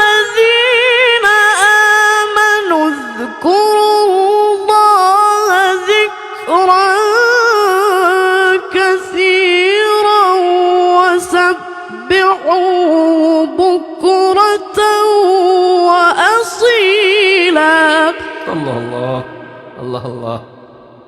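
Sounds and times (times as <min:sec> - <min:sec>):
person reciting melodically: 0:00.0 - 0:20.7.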